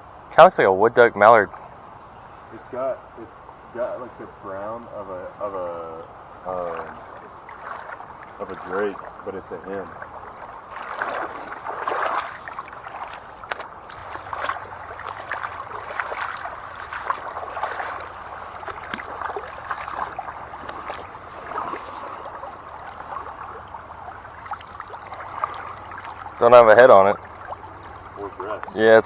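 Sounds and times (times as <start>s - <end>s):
creek water sloshing and gurgling: 1.5s - 29.0s.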